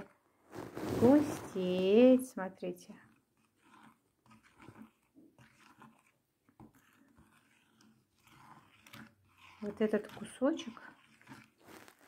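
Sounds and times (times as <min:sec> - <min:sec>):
spoon squishing thick clay: 0:00.0 - 0:12.0.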